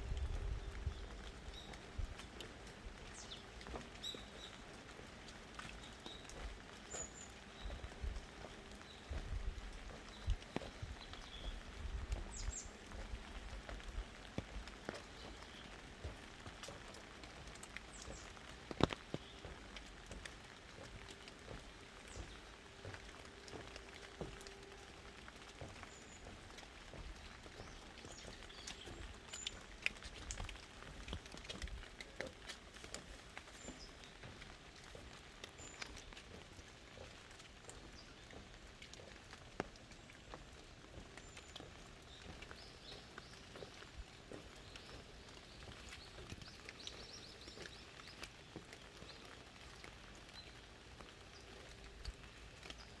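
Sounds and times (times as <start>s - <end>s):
raindrops tapping on leaves: 0.0s - 53.0s.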